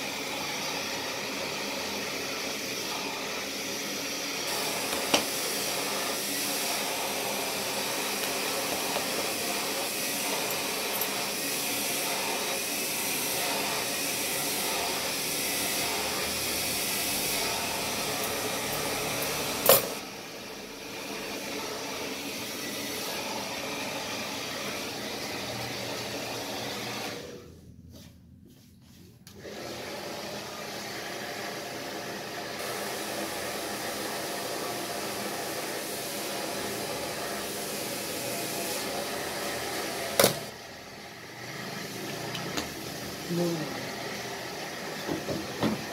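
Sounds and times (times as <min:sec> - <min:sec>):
hair dryer blowing: 0:00.0 - 0:27.6, 0:29.2 - 0:45.9.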